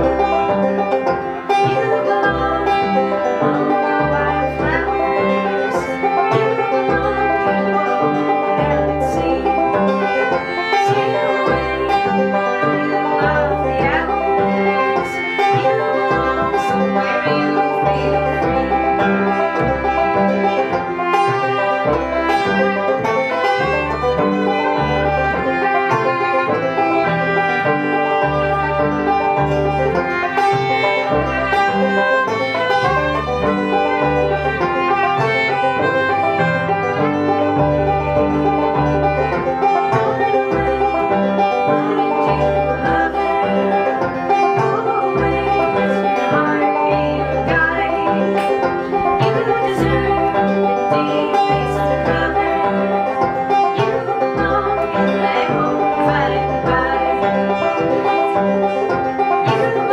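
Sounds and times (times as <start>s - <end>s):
banjo: 0.0s - 59.9s
fiddle: 0.0s - 59.9s
upright bass walking: 0.0s - 59.9s.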